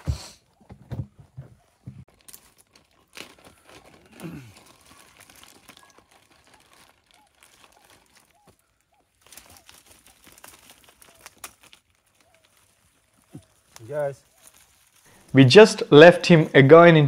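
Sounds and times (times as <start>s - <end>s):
wire and netting clicking and rustling: 0.6s - 15.2s.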